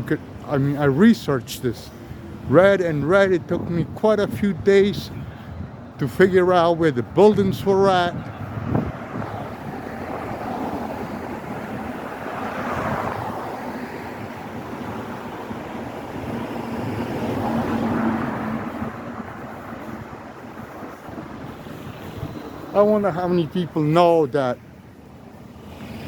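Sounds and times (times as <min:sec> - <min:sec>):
vehicles passing by: 0:00.0 - 0:26.0.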